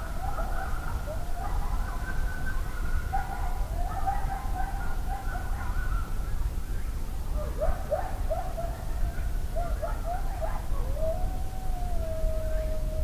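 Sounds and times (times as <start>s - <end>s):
coyotes howling and yipping: 0.0s - 13.0s.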